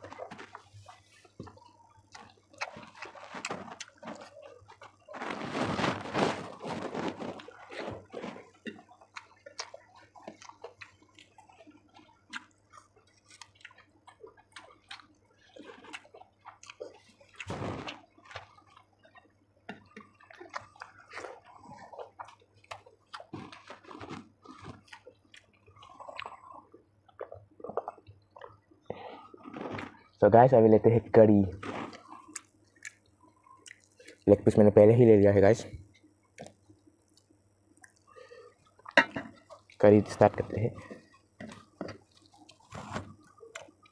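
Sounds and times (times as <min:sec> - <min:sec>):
wet chewing and mouth smacks: 0:00.0 - 0:30.2, 0:31.6 - 0:34.5, 0:35.7 - 0:43.9.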